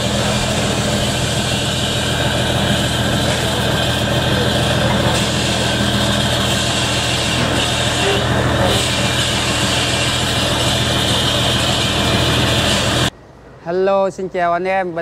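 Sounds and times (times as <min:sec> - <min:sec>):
diesel boat engine idling: 0:00.0 - 0:13.1.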